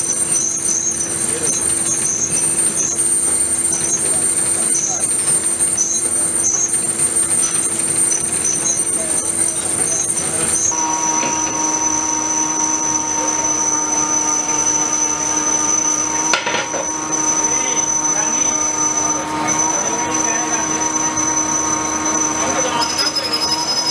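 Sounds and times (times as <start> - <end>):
drill boring steel: 0.0 - 23.9
lathe turning steel: 0.0 - 23.9.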